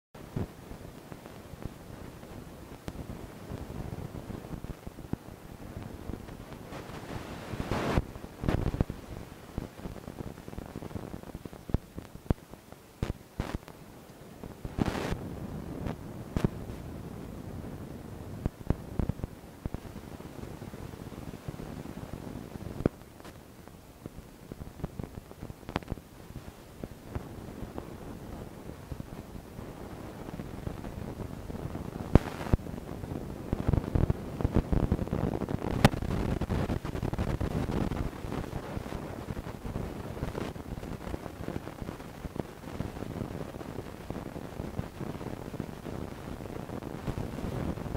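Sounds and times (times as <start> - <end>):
steady hiss: 0.2 - 47.9.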